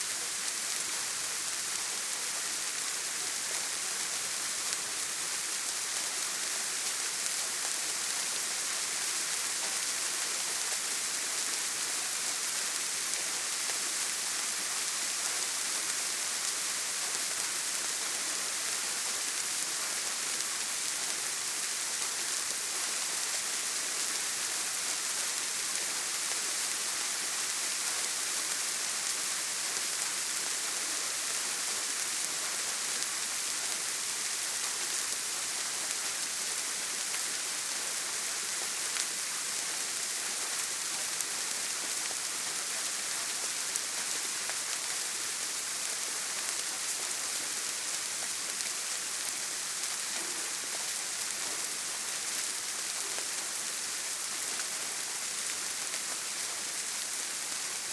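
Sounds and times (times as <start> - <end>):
rain on a tin roof: 0.0 - 57.9.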